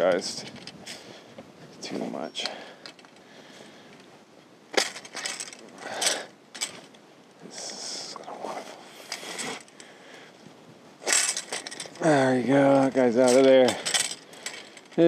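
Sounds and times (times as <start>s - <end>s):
wood and twigs crackling: 0.0s - 15.0s.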